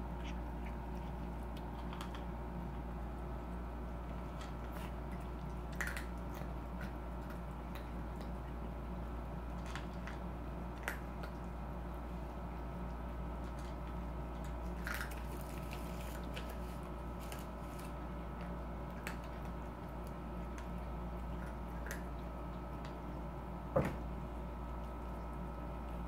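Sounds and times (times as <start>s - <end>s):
cats chewing: 0.0s - 26.0s
steady hum: 0.0s - 26.0s.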